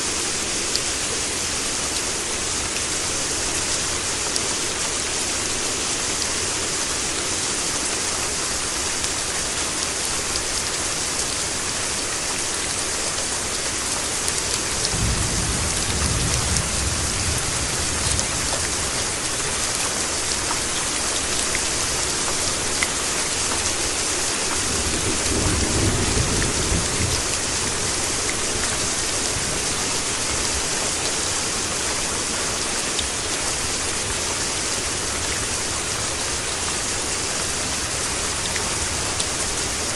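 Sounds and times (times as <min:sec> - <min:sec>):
dense rainfall pattering: 0:00.0 - 0:39.9.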